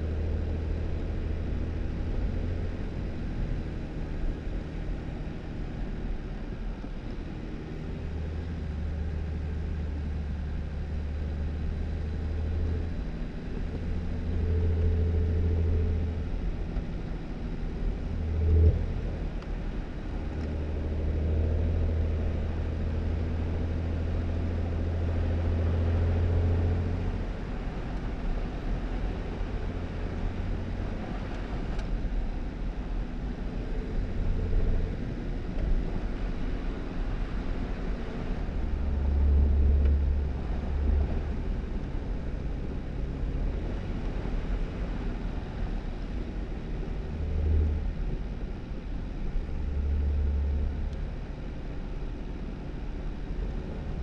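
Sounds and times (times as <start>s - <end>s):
car engine humming: 0.0s - 54.0s.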